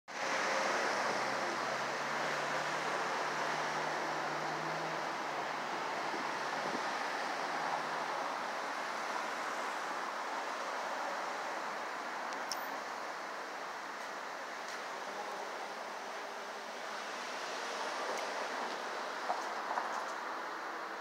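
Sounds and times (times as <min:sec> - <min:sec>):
distant traffic: 0:00.1 - 0:21.0
wind: 0:00.1 - 0:21.0.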